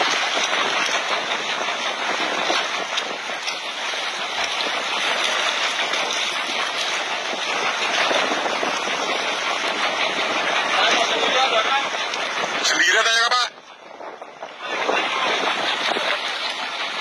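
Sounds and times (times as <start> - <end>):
seawater rushing around boat: 0.0 - 17.0.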